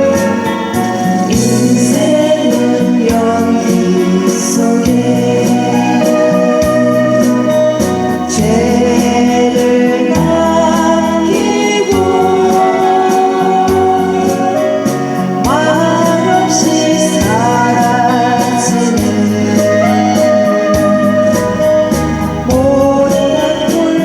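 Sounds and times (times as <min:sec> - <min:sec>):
karaoke keyboard backing track: 0:00.0 - 0:24.0
person singing: 0:00.0 - 0:24.0.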